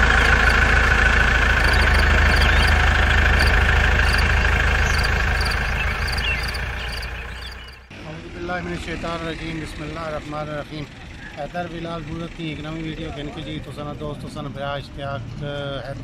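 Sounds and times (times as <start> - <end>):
engine idling: 0.0 - 14.1.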